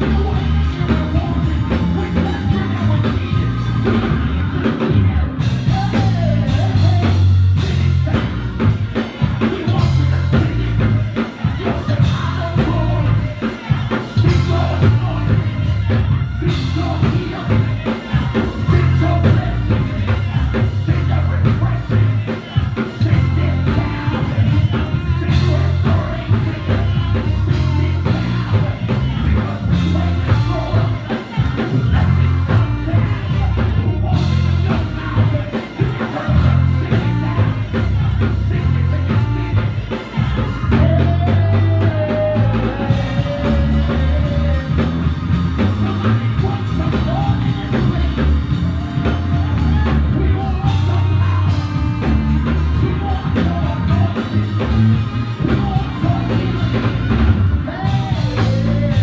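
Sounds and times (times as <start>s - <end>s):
live band music: 0.0s - 59.0s
person singing: 0.0s - 59.0s.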